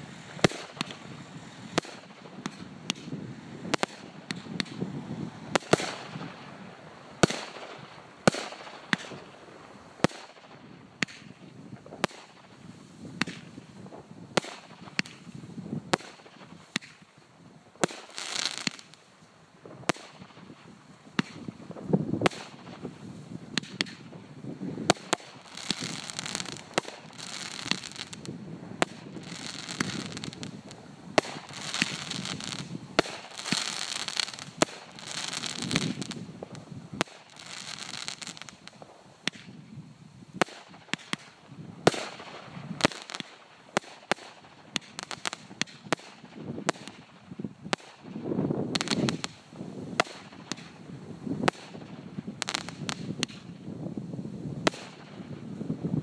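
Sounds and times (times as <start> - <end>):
firework bangs: 0.0 - 17.2, 17.8 - 19.0, 19.6 - 53.7, 54.6 - 56.0
firework hissing and crackling: 0.0 - 56.0.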